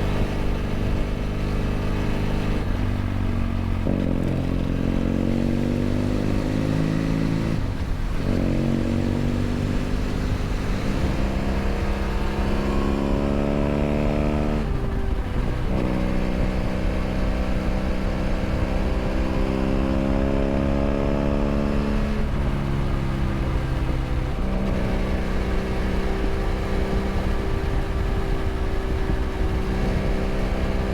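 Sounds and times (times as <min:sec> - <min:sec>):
motorcycle engine accelerating: 0:00.0 - 0:30.9
wind and road noise: 0:00.0 - 0:30.9.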